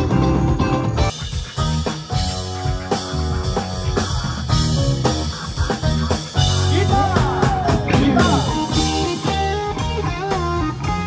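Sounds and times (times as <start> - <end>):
bass line: 0.0 - 11.0
rock music with electric guitar: 0.0 - 11.0.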